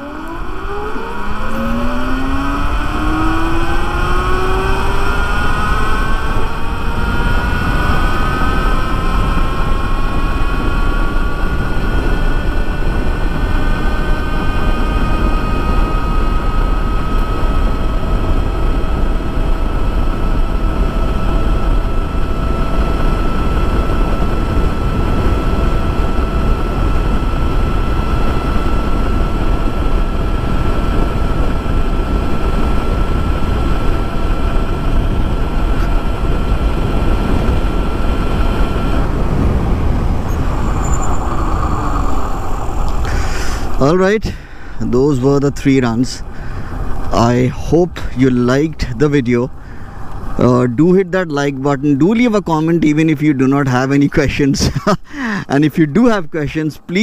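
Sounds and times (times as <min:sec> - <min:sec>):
electric motor whine: 0:00.0 - 0:48.1
wind and road rush: 0:00.0 - 0:57.0.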